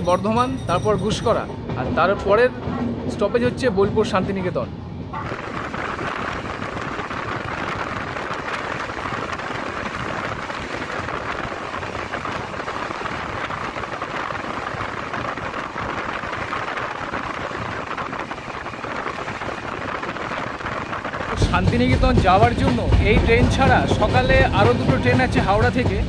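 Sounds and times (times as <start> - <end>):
train wheels rushing on rails: 0.0 - 26.0
low rumble: 0.7 - 26.0.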